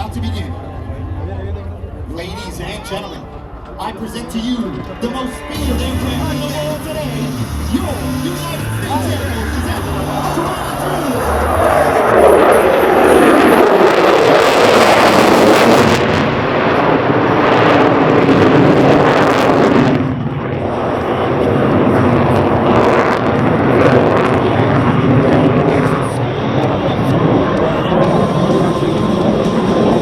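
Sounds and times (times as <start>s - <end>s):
loud jet engine roar: 0.0s - 30.0s.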